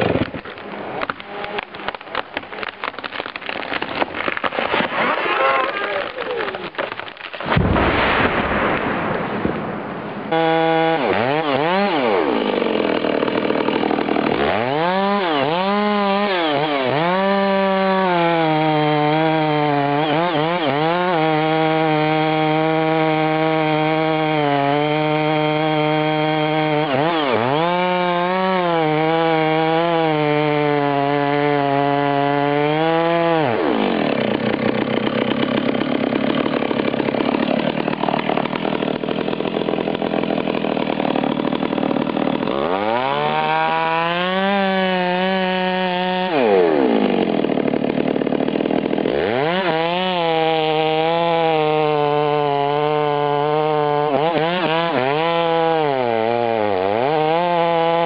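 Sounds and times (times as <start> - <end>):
chainsaw cutting at full throttle: 0.0 - 8.7, 10.3 - 58.0.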